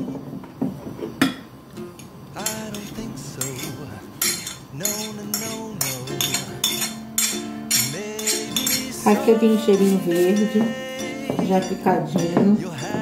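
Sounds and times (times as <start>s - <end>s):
spoon clinking on glass bowl: 2.4s - 13.0s
spoon scraping a plate: 2.4s - 13.0s.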